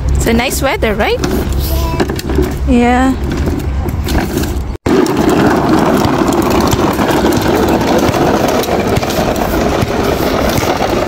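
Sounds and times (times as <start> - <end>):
plastic wheels rolling on asphalt: 0.1 - 11.0.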